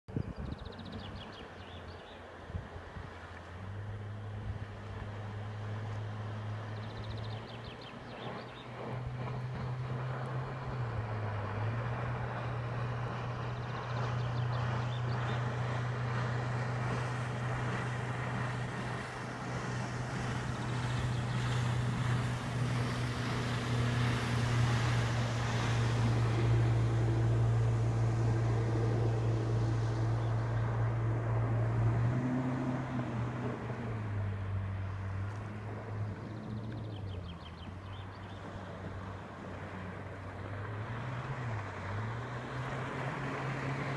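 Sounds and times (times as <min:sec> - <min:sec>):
motorboat engine running: 0:00.1 - 0:43.9
water rushing: 0:01.1 - 0:43.9.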